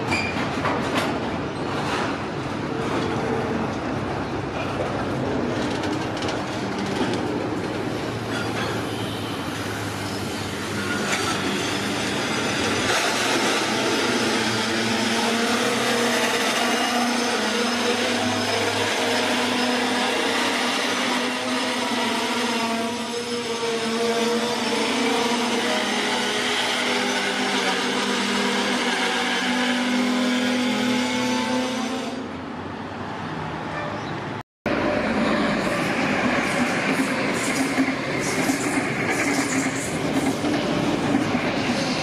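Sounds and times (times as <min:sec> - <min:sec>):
train wheels rumbling on rails: 0:00.0 - 0:32.0, 0:34.7 - 0:42.0.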